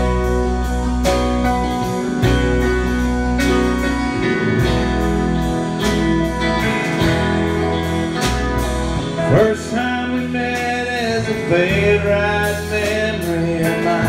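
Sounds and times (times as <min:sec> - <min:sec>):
country band instrumental: 0:00.0 - 0:14.0.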